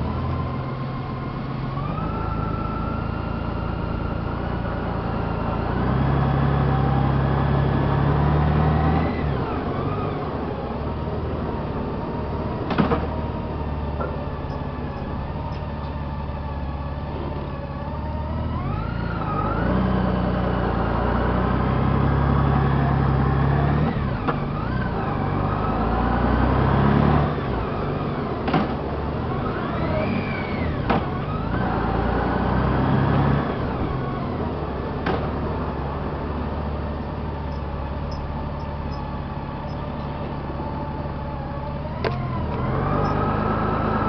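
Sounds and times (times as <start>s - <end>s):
motorcycle engine under load: 0.0s - 44.0s.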